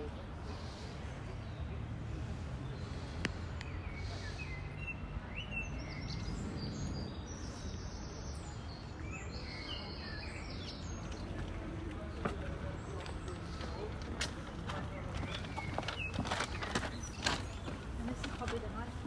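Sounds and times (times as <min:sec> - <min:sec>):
small birds chirping: 0:00.0 - 0:19.0
traffic rumble: 0:00.0 - 0:19.0.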